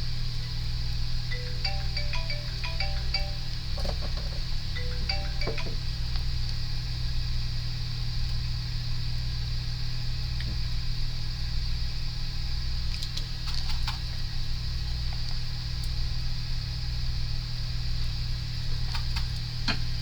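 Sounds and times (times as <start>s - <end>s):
electronic equipment hum and hiss: 0.0s - 20.0s.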